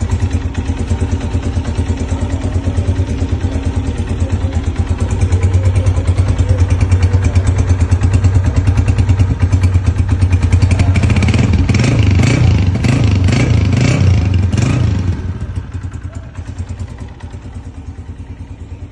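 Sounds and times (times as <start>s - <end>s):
motorcycle engine running and revving: 0.0s - 18.9s.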